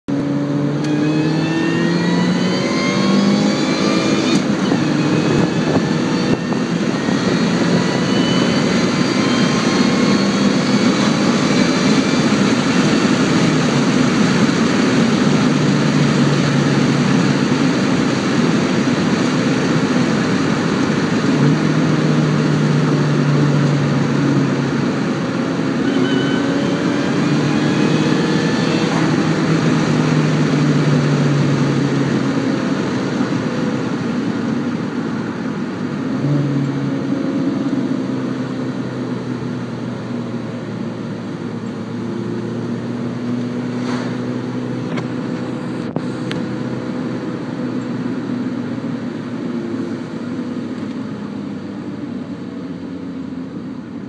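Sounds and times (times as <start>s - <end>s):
car engine and supercharger whine: 0.0s - 54.0s
road noise: 0.0s - 54.0s.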